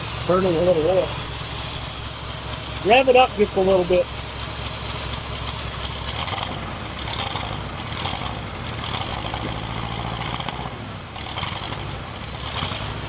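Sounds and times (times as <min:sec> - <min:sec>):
engine running rough: 0:00.0 - 0:13.0
hissing rush: 0:00.0 - 0:13.0.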